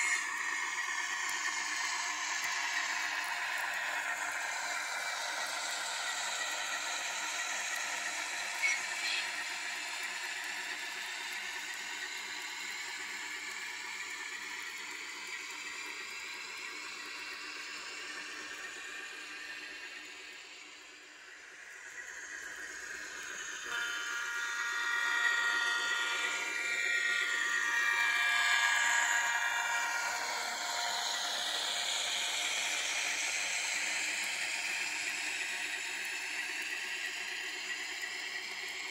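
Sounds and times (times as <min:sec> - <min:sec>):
electric motor whine: 0:00.0 - 0:38.9
model train wagons rolling: 0:00.0 - 0:38.9.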